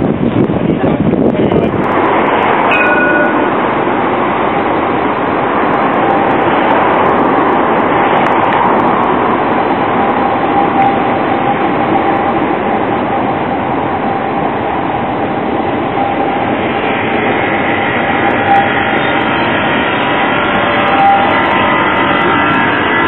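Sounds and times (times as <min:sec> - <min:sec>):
tram wheels rumbling on rails: 0:00.0 - 0:23.0
tram whining: 0:00.0 - 0:23.0.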